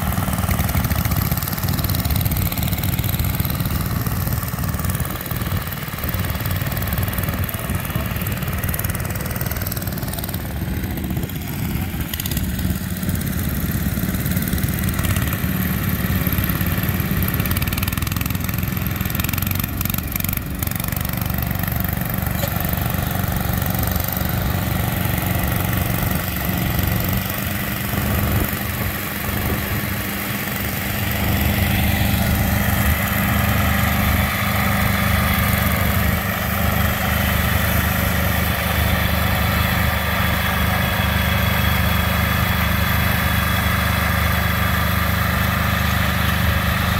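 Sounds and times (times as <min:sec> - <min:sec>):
garden tractor engines running: 0:00.0 - 0:46.9.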